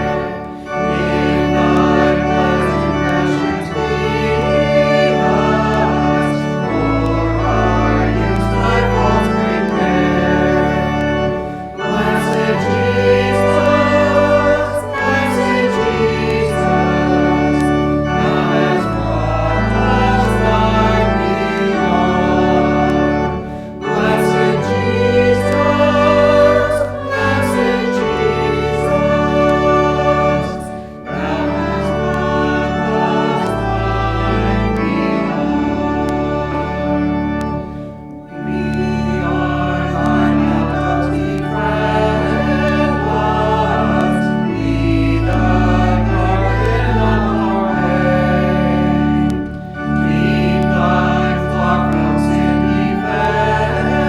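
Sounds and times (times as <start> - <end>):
organ playing chords: 0.0 - 54.0
voices singing a hymn: 0.0 - 54.0.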